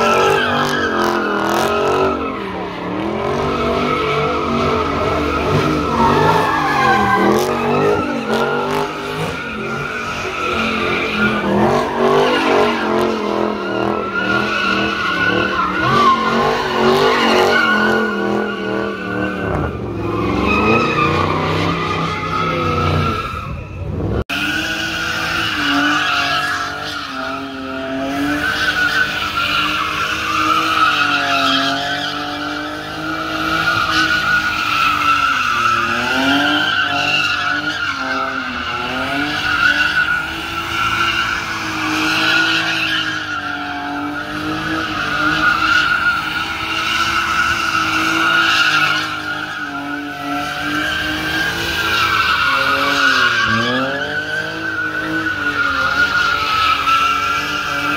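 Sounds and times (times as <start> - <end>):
car engine revving: 0.0 - 57.9
tires squealing: 0.0 - 57.9.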